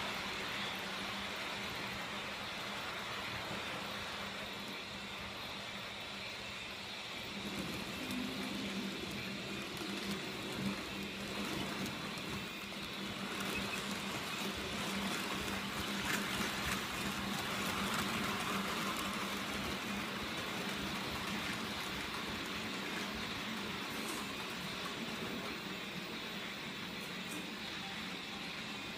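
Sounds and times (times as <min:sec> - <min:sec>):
model train wheels clicking on rails: 0:00.0 - 0:28.9.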